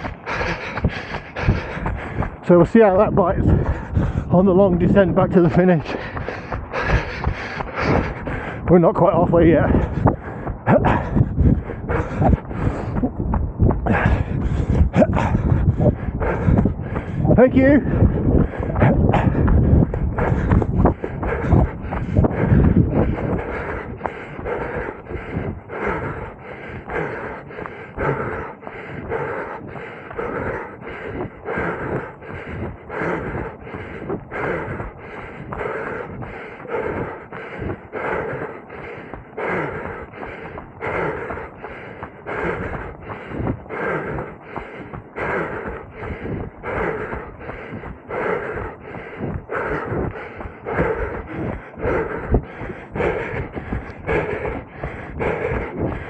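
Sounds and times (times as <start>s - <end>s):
runner panting: 0.0s - 56.0s.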